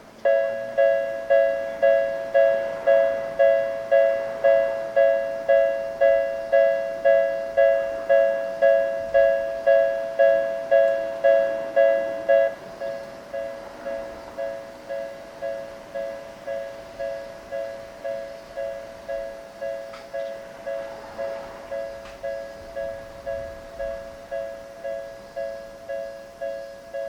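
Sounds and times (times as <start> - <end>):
level crossing warning bell: 0.0 - 27.0.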